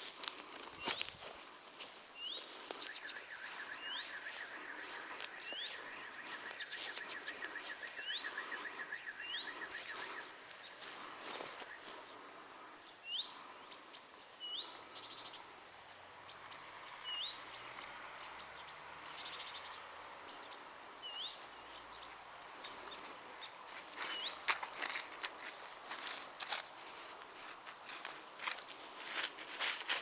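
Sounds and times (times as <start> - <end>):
songbirds calling: 0.0 - 30.0.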